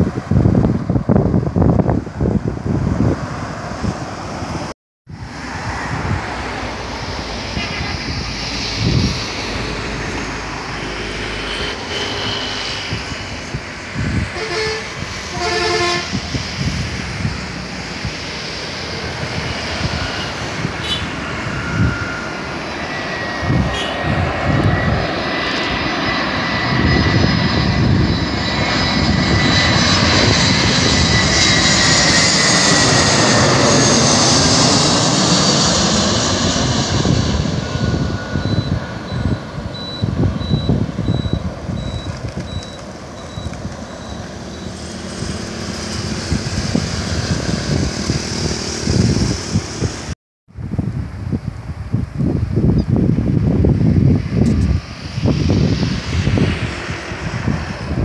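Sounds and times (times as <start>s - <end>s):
jet plane passing over: 0.0s - 58.0s
wind buffeting microphone: 0.0s - 58.0s.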